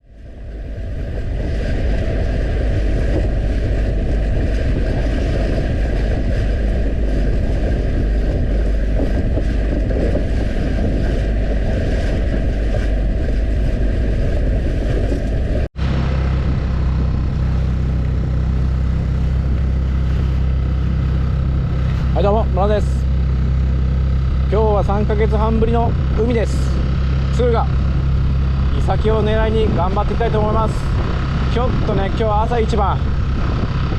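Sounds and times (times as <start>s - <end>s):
outboard motor running: 0.0s - 33.9s
steady engine hum: 0.0s - 33.9s
wind on microphone: 0.0s - 33.9s.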